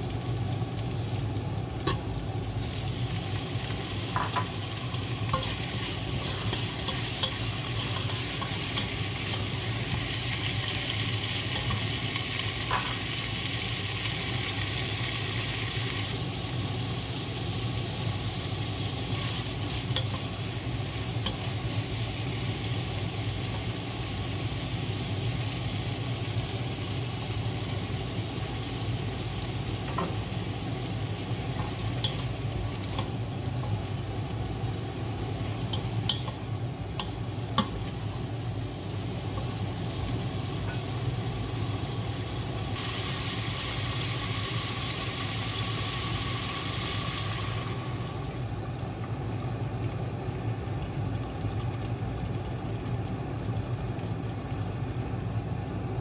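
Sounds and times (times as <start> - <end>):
oil sizzling in a pot: 0.0 - 56.0.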